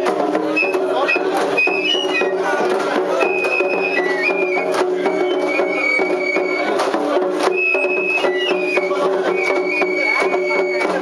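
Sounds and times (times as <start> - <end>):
sharp drum strikes: 0.0 - 11.0
bamboo flute high notes: 0.5 - 11.0.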